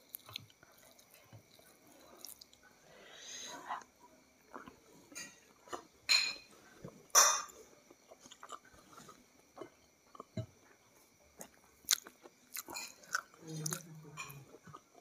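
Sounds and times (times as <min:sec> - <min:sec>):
person chewing food: 0:00.0 - 0:06.0, 0:06.6 - 0:15.0.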